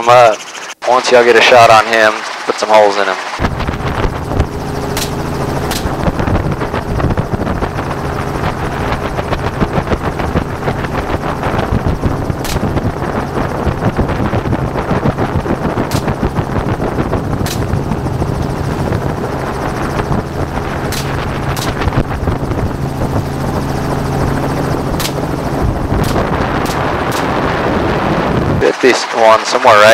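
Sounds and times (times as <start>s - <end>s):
helicopter rotor chopping: 0.0s - 29.9s.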